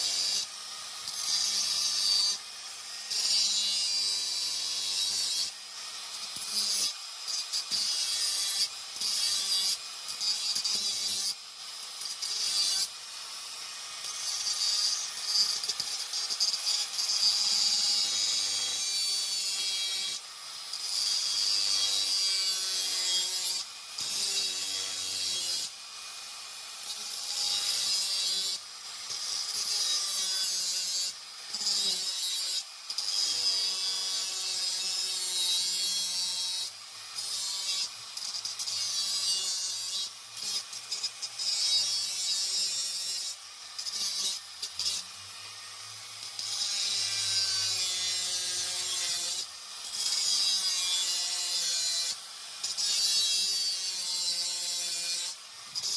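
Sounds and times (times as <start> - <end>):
handheld grinder grinding metal: 0.0 - 55.9.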